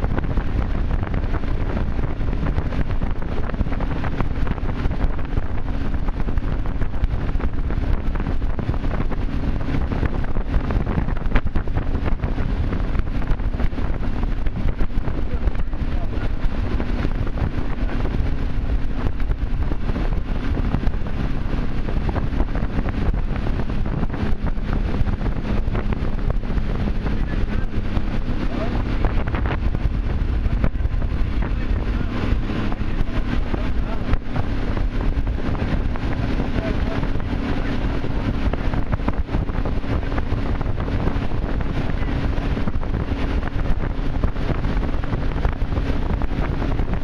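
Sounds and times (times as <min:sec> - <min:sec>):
boat engine running: 0:00.0 - 0:47.0
rush of boat wake: 0:00.0 - 0:47.0
wind buffeting microphone: 0:00.0 - 0:47.0.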